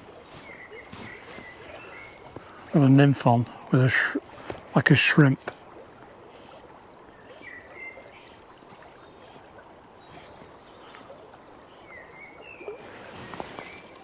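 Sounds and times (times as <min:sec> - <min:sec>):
fast river water rushing: 0:00.0 - 0:14.0.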